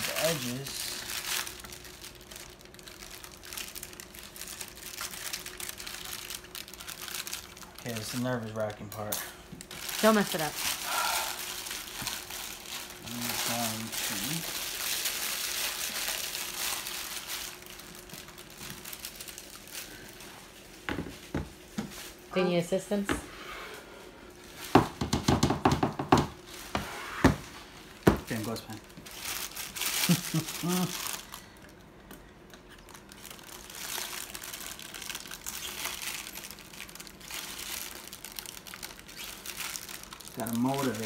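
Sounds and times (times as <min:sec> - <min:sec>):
wax paper crinkling: 0:00.0 - 0:22.3, 0:27.5 - 0:31.8, 0:32.7 - 0:41.0.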